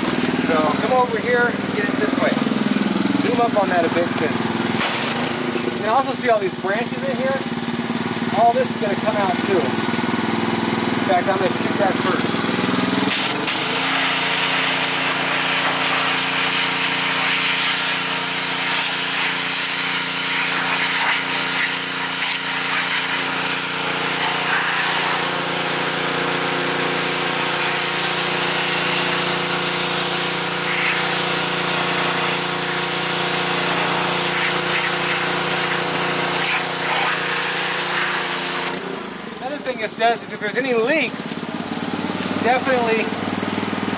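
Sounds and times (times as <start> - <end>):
pressure washer water jet hissing: 0.0 - 43.9.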